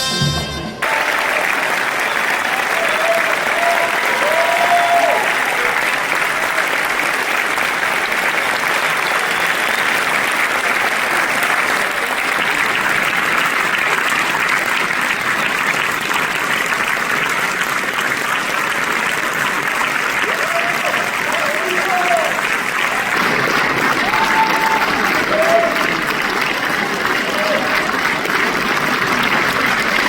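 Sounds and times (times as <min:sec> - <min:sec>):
audience applauding: 0:00.8 - 0:30.0.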